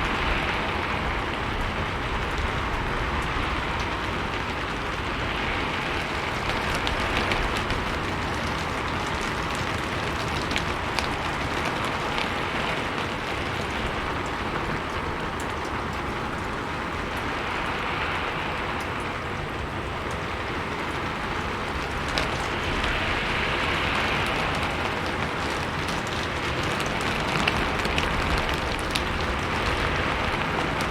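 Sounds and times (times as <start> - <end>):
rain on a rooftop: 0.0 - 30.9.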